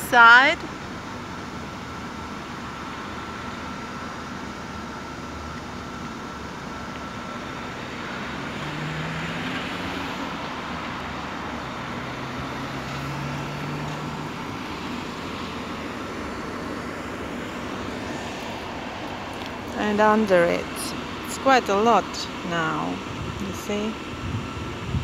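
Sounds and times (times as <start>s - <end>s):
low engine hum: 0.0s - 25.0s
motor traffic noise: 0.0s - 25.0s.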